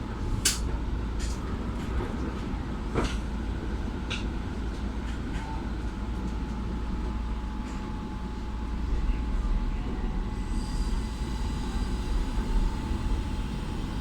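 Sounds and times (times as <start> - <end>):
rumble of train motors and wheels: 0.0 - 14.0.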